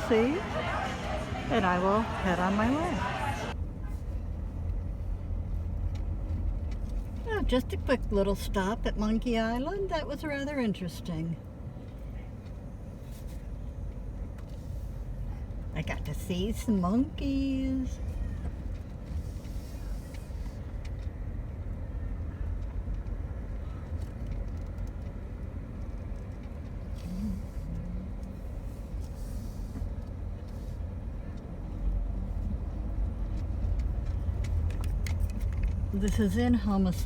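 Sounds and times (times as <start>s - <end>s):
minivan engine and road rumble: 0.0s - 37.0s.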